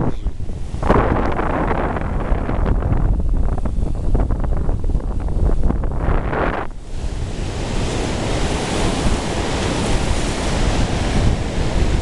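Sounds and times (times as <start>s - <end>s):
surf breaking and washing in: 0.0s - 12.0s
wind buffeting microphone: 0.0s - 12.0s.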